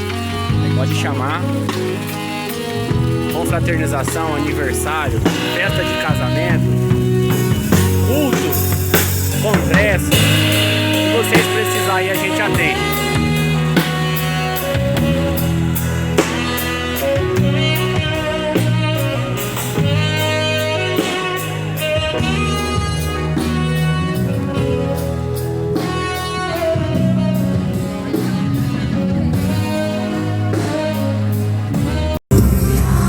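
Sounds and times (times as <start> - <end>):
band playing: 0.0 - 33.0
drum kit beat: 0.0 - 33.0
louder music piece: 0.0 - 33.0
saxophone melody: 0.0 - 33.0.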